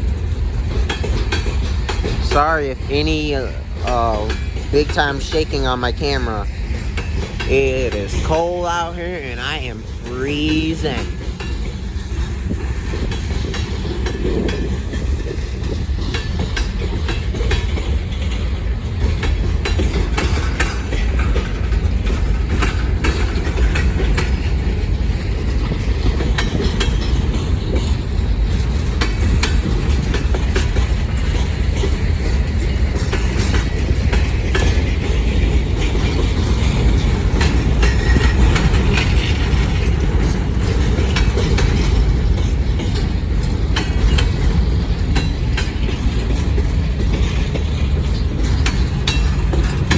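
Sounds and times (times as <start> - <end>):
freight train rumbling past: 0.0 - 49.9
train wheel clicks: 0.0 - 49.9.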